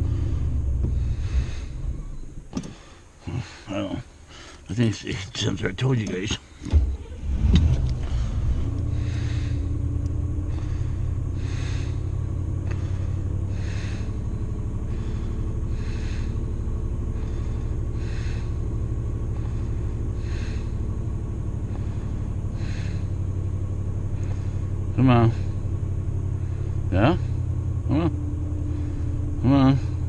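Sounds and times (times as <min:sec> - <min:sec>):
slow breathing close to microphone: 0:00.0 - 0:04.7, 0:06.5 - 0:27.5
car engine idling: 0:00.0 - 0:30.0.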